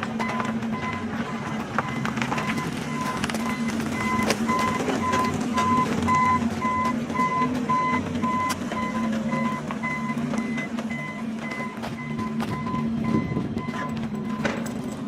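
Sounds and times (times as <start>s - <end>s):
low engine hum: 0.0s - 15.0s
vehicle reversing alarm beeping: 0.0s - 15.0s.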